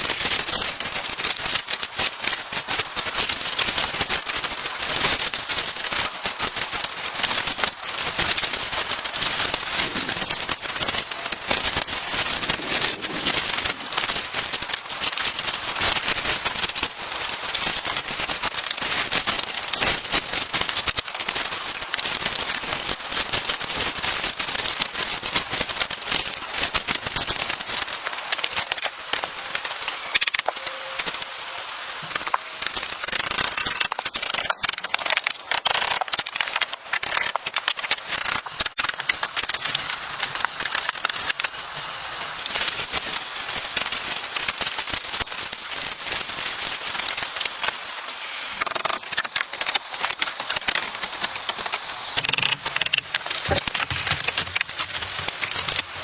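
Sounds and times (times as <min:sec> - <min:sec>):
dense crackling pops and clicks: 0:00.0 - 0:56.0.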